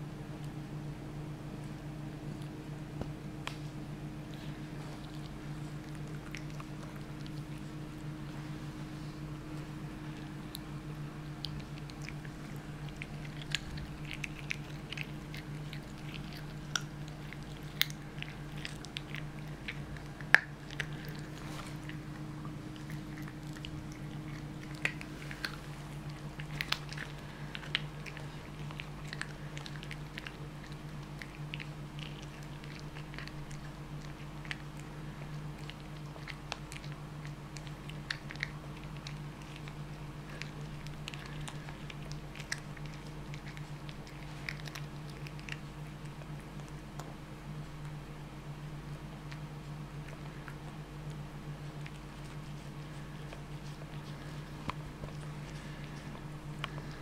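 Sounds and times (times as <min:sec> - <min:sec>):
low hum: 0:00.0 - 0:57.0
kitten chewing bone: 0:00.1 - 0:57.0.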